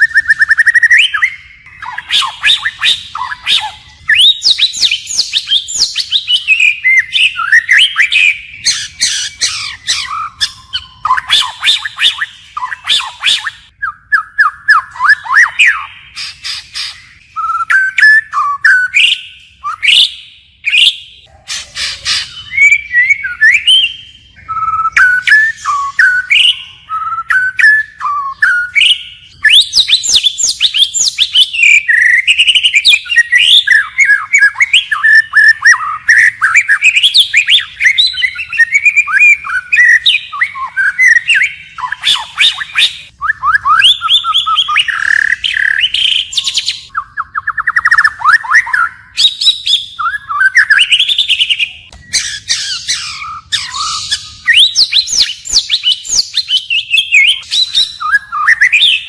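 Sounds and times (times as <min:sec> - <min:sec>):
bird singing whistled trills: 0:00.0 - 0:59.0
buzzy rattling bird phrase: 0:00.0 - 0:59.0.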